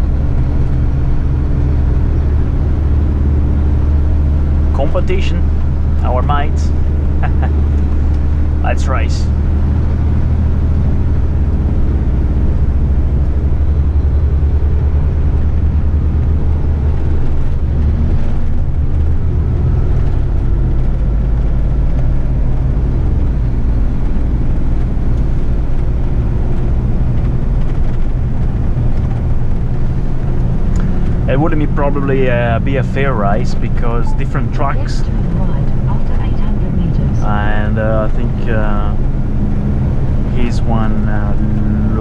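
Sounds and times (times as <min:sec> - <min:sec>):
truck diesel engine drone: 0:00.0 - 0:42.0.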